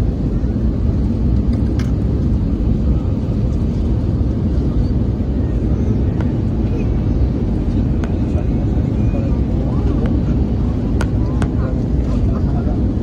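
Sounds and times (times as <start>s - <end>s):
jet engines and airflow in cabin: 0.0s - 13.0s.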